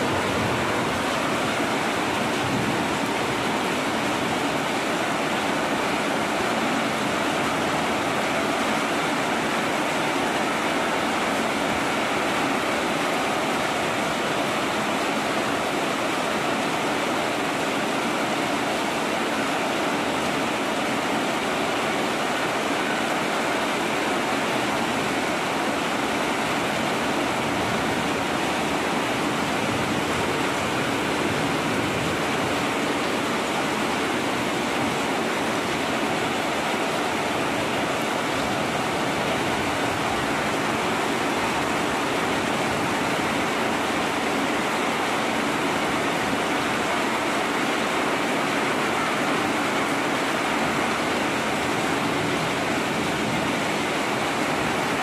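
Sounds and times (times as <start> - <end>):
heavy rain hissing: 0.0 - 55.0
water streaming off metal roof: 0.0 - 55.0.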